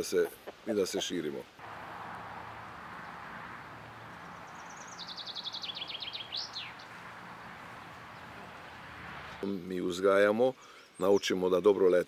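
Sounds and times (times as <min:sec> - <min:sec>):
outdoor background noise: 0:00.0 - 0:12.0
songbird singing: 0:00.0 - 0:12.0.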